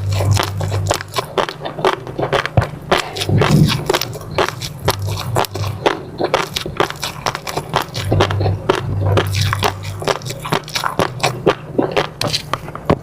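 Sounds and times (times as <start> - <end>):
person chewing soft food: 0.0 - 13.0.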